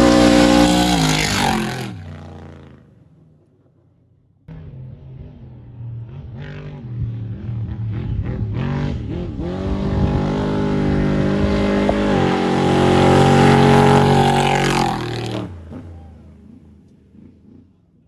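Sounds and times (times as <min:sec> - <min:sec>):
race vehicle engine passing by: 0:00.0 - 0:03.0, 0:04.5 - 0:17.8.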